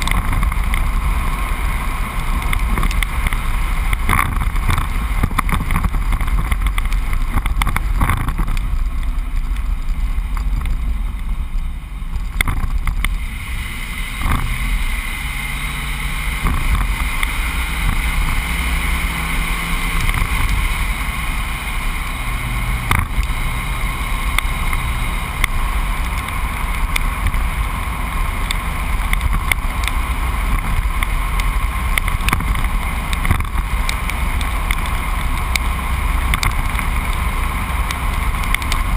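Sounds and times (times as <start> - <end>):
truck engine and tyres rumbling: 0.0 - 38.9
wind noise on microphone: 0.0 - 38.9.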